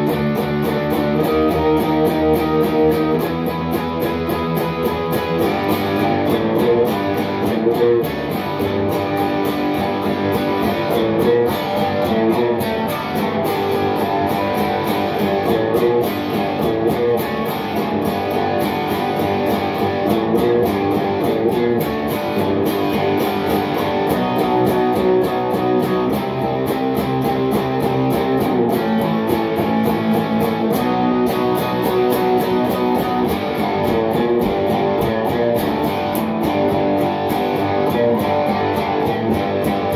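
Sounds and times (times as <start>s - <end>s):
electric guitar chords and riffs: 0.0s - 39.9s.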